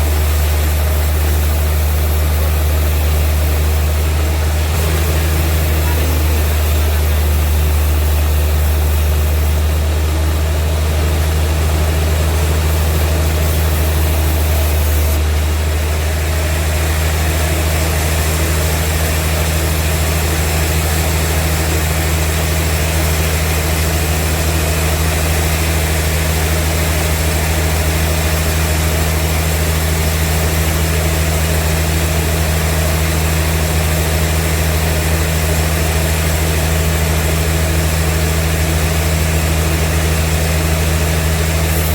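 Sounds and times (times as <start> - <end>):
sawmill machinery droning: 0.0 - 41.9.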